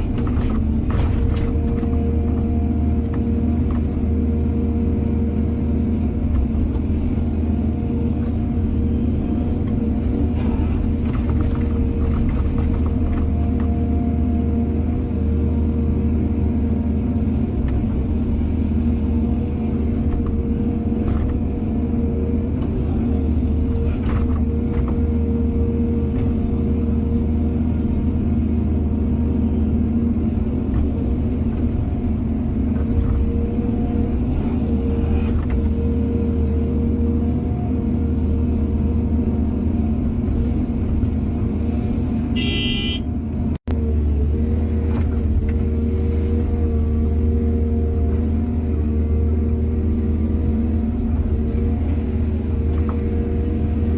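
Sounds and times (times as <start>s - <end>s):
diesel engine humming: 0.0s - 53.9s.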